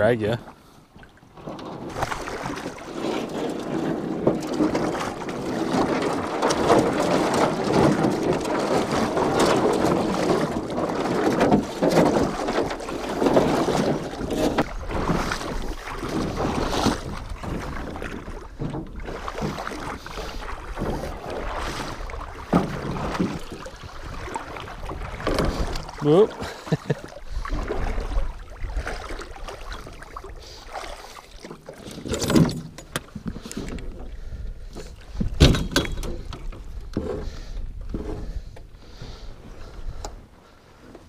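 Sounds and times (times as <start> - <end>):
river water splashing along hull: 0.0 - 41.0
scrapes and knocks against hull: 0.5 - 41.0.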